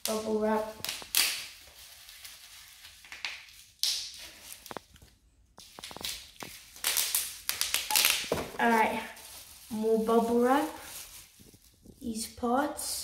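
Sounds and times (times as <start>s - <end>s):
plastic packaging rustling: 0.0s - 12.2s.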